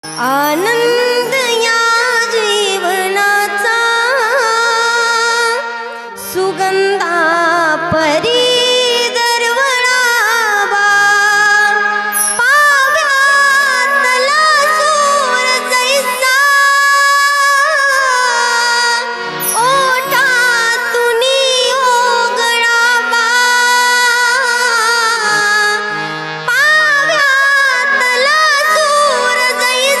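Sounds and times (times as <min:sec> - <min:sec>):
woman singing devotional song: 0:00.0 - 0:30.0.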